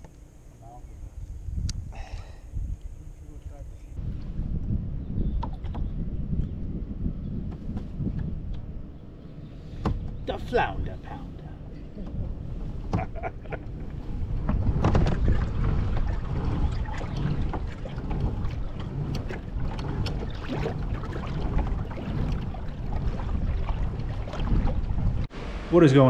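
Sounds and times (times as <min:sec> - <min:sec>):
wind buffeting microphone: 0:00.6 - 0:25.9
water lapping against hull: 0:01.5 - 0:25.7.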